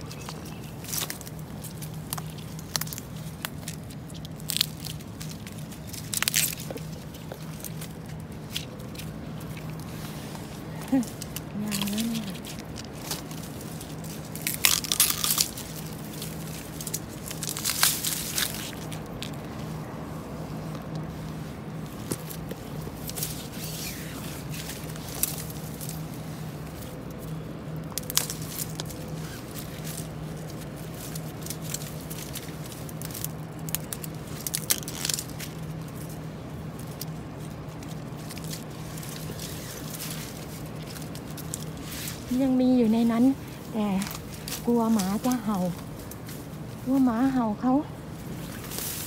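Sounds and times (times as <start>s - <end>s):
dry bamboo crackling: 0.0s - 49.0s
low steady hum: 0.0s - 49.0s.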